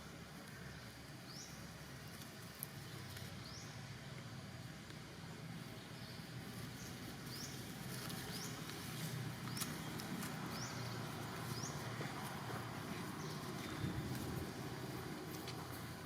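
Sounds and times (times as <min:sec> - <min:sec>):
steady low rumble: 0:02.7 - 0:16.0.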